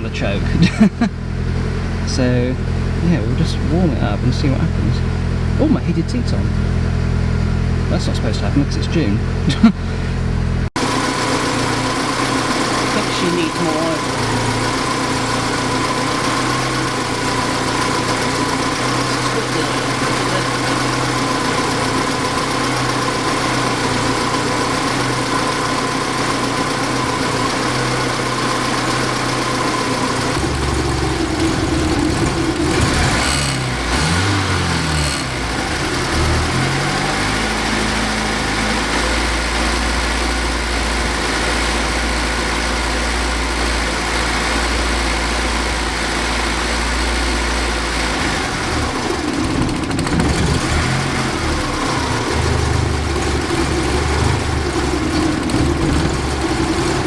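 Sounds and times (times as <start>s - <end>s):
car engine idling: 0.0s - 57.0s
engine clicks: 0.0s - 57.0s.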